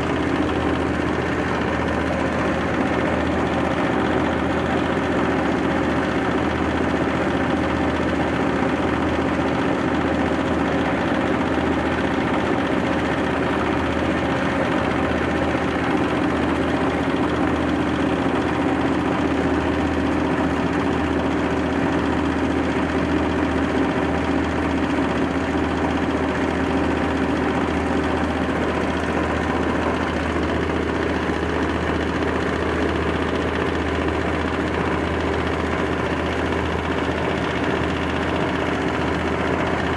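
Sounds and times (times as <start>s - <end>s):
grinding machine running: 0.0s - 39.9s.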